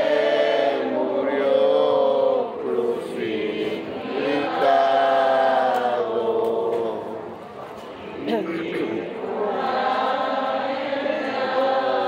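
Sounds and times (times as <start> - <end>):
voices singing a slow hymn: 0.0 - 12.0.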